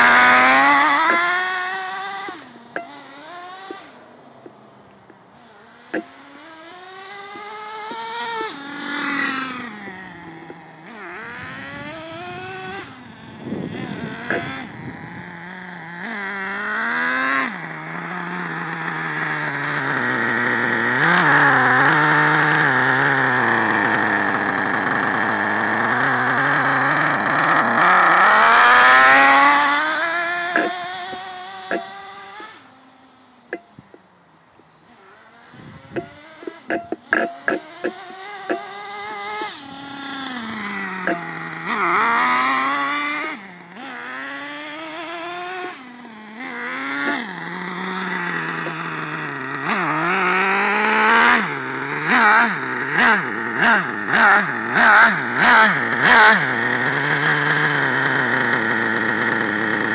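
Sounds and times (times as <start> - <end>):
rc nitro engine revving: 0.0 - 59.9.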